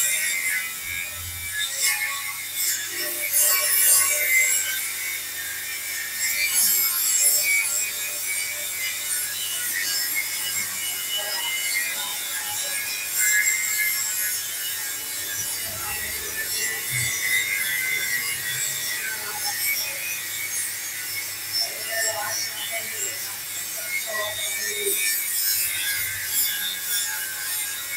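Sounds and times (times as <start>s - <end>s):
tool scraping metal: 0.0s - 27.9s.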